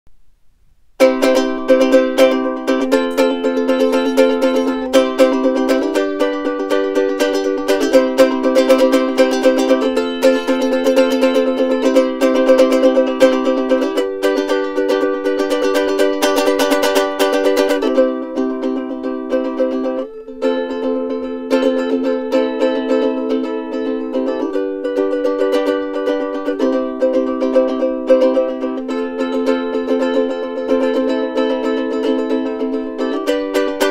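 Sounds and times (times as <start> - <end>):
ukulele strumming chords: 0.2 - 33.9.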